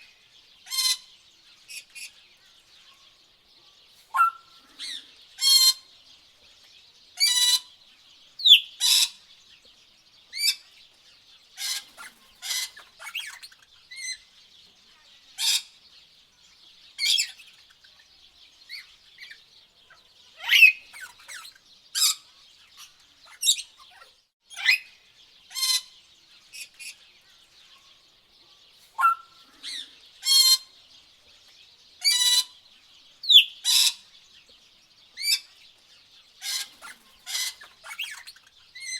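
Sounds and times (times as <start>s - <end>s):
tropical birds calling: 0.0s - 38.9s.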